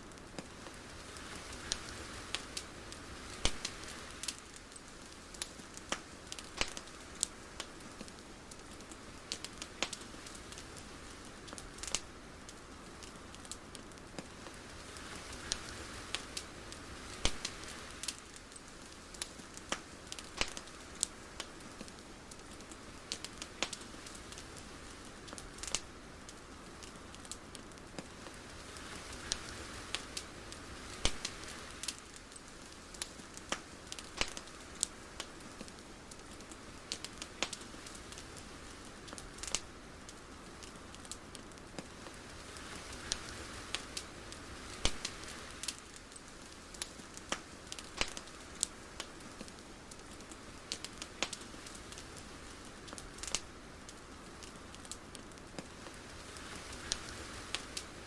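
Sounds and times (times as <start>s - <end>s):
crackles and pops: 0.0s - 58.0s
soft hiss: 0.0s - 58.0s.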